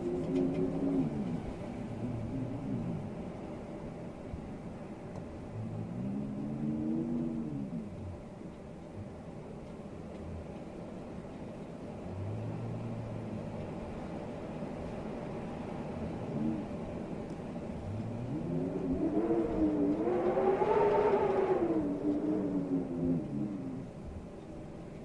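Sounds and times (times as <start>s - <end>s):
strong storm wind howling: 0.0s - 25.0s.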